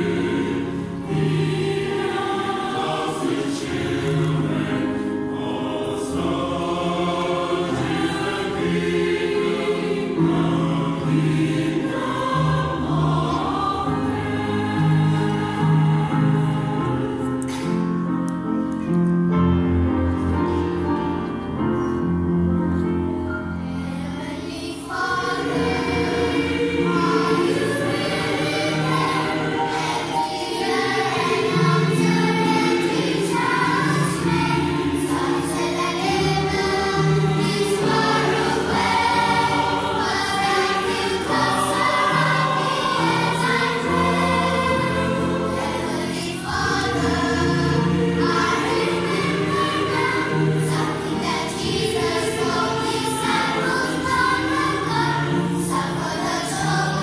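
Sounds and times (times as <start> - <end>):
children's choir singing: 0.0 - 57.0
keyboard accompaniment: 0.0 - 57.0.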